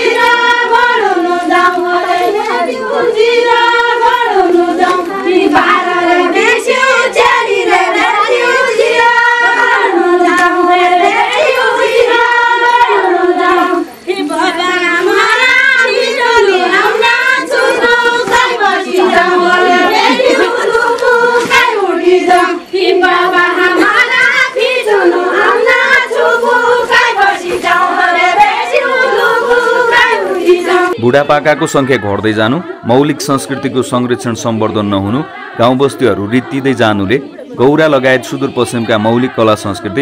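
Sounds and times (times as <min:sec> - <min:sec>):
women singing folk song in unison: 0:00.0 - 0:40.0.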